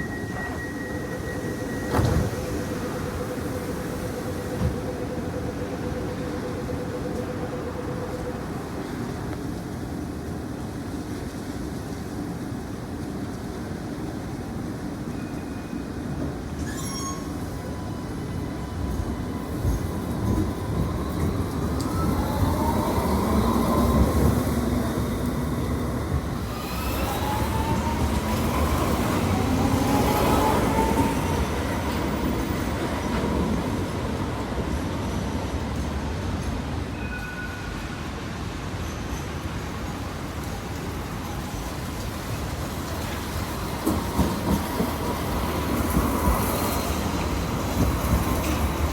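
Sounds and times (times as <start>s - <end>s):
street background noise: 0.0s - 48.9s
tram passing: 0.0s - 48.9s.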